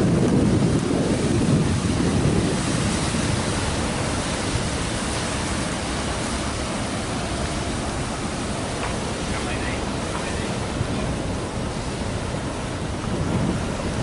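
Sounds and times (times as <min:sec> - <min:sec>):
water wash: 0:00.0 - 0:14.0
wind on microphone: 0:00.0 - 0:14.0.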